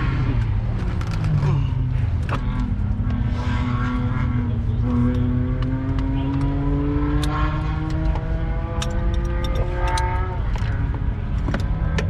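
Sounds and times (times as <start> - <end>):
car engine revving up: 0.0 - 12.0.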